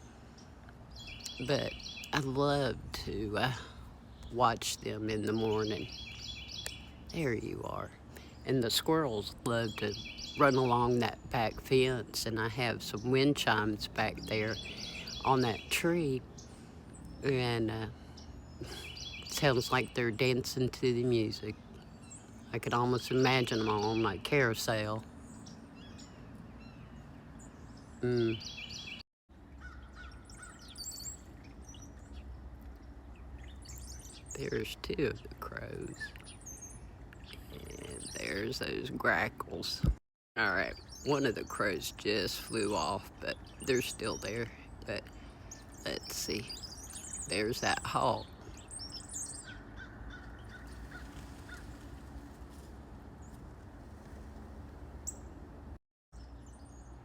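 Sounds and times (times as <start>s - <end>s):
birds calling and chirping: 0.0s - 57.0s
outdoor background noise: 0.0s - 57.0s.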